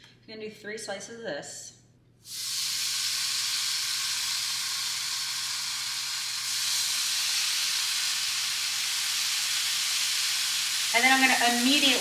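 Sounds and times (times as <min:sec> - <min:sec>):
bacon sizzling in frying pan: 0:02.3 - 0:12.0.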